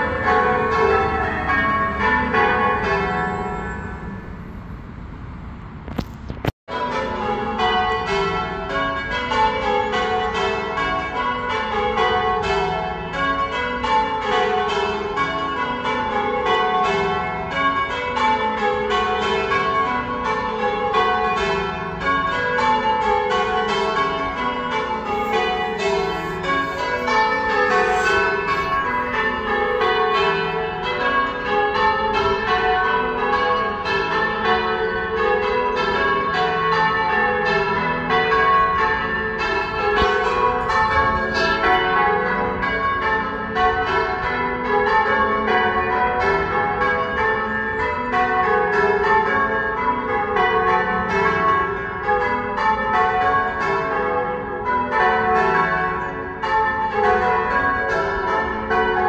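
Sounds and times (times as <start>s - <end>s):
church bells ringing changes: 0.0s - 4.6s, 6.7s - 59.0s.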